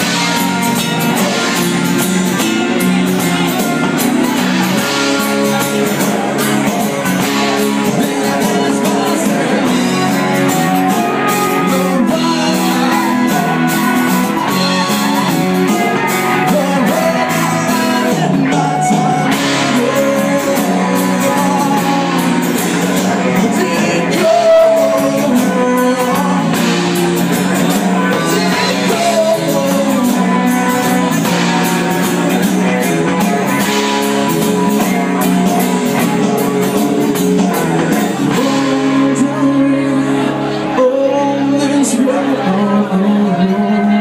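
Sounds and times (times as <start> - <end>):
drums: 0.0 - 44.0
electric guitar: 0.0 - 44.0
man singing: 0.0 - 44.0
strummed acoustic guitar: 0.0 - 44.0.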